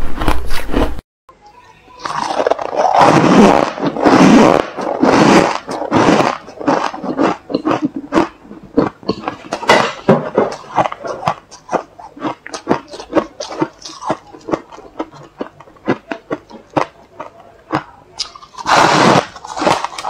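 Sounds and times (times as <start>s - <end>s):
crunching frost in mouth: 2.0s - 9.9s, 10.5s - 20.0s.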